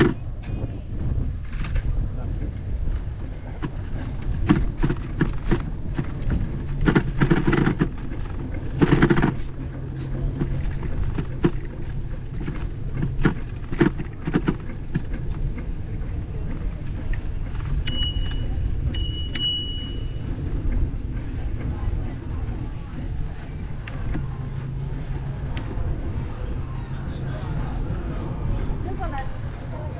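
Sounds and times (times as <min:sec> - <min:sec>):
bicycle rattles and clicks: 0:00.0 - 0:29.9
bicycle rolling on pavement: 0:00.0 - 0:29.9.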